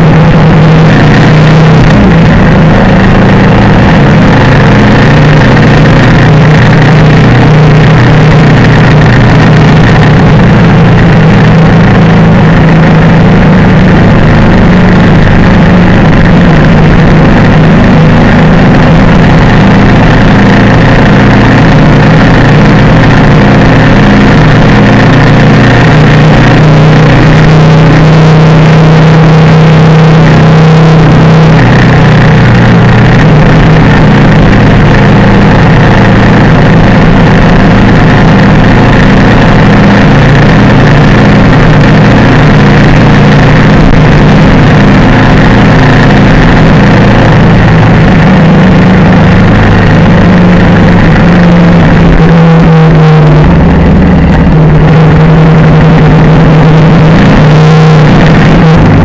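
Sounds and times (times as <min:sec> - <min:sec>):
motorcycle engine running: 0:00.0 - 0:59.0
passing motorcycle engine: 0:00.0 - 0:59.0
wind and road noise: 0:00.0 - 0:59.0.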